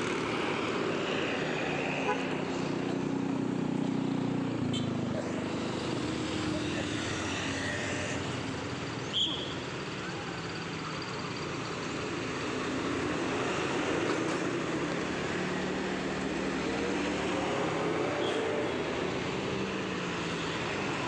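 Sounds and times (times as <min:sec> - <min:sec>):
large vehicle engine hum: 0:00.0 - 0:21.0
road traffic: 0:00.0 - 0:21.0.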